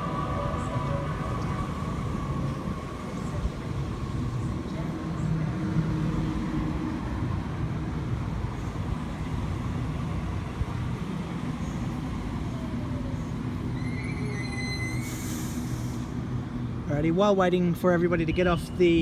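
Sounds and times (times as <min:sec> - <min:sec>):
electric train rumble and whine: 0:00.0 - 0:19.0.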